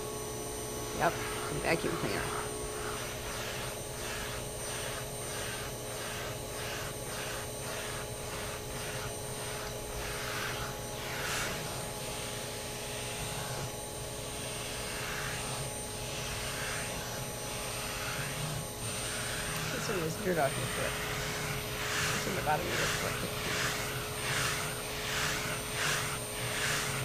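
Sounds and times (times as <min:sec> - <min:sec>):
vacuum cleaner suction: 0:00.7 - 0:27.0.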